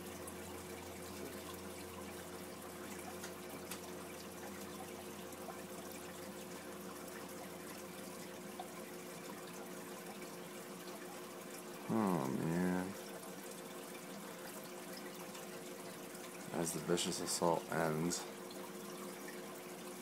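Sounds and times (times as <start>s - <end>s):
aquarium water bubbling: 0.0s - 20.0s.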